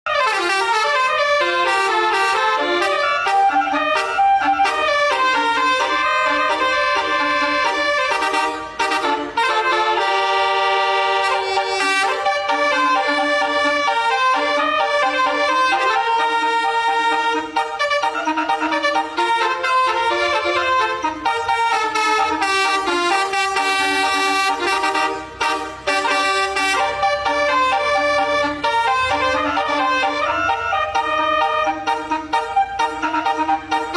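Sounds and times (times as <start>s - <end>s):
multi-tone bus air horn melody: 0.0s - 33.9s.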